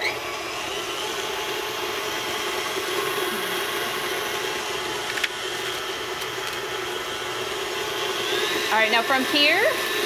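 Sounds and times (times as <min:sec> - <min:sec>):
electric stand mixer running: 0:00.0 - 0:10.0.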